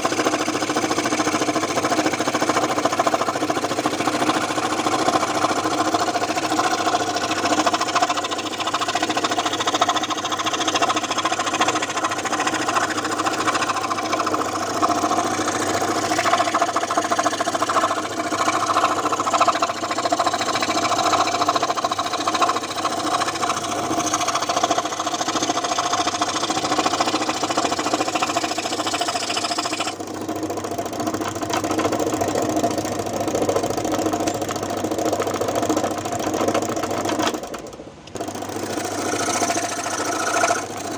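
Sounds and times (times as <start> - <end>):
scroll saw blade buzzing: 0.0 - 40.9.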